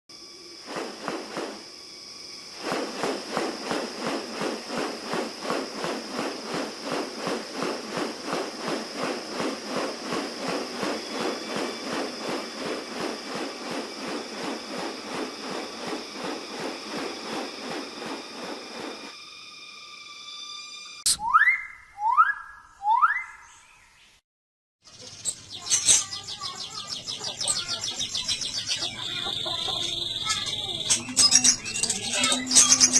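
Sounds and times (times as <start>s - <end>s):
insects high-pitched drone: 0.1s - 21.1s, 24.9s - 32.9s
insect rhythmic pulsing call: 0.1s - 23.8s, 24.9s - 32.9s.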